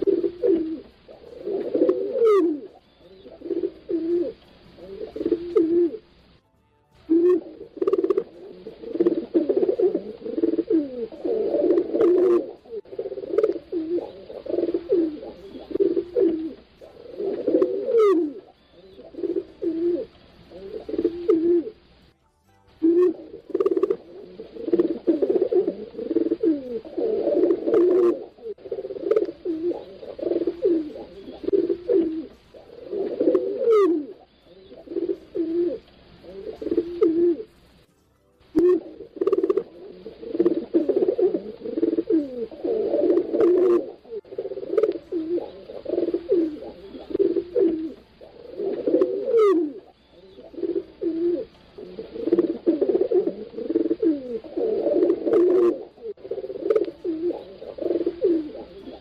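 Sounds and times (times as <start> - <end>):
pigeons cooing: 0.0 - 6.4, 7.1 - 22.1, 22.8 - 59.0.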